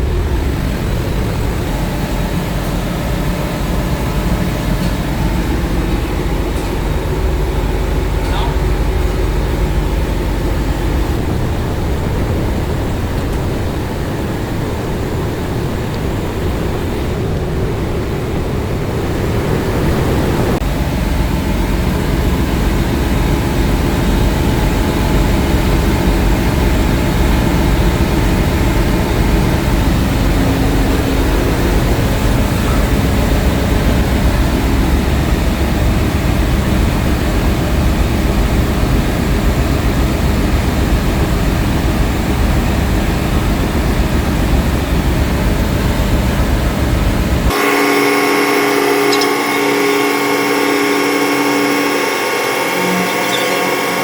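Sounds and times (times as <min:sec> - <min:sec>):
engine room machinery drone: 0:00.0 - 0:54.0.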